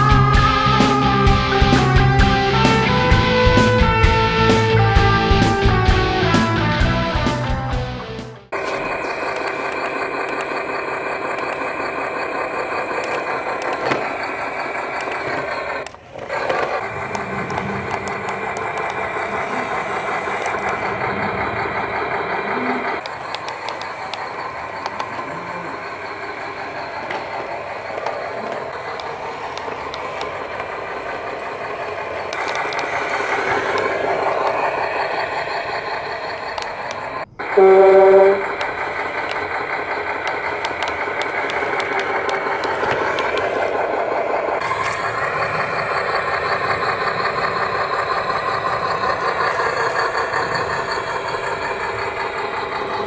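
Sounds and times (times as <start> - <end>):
simulated truck engine from speaker: 0.0 - 53.0.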